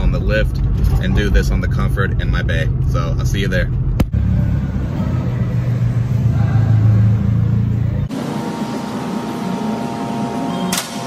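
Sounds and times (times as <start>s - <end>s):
car engine running: 0.0s - 9.9s.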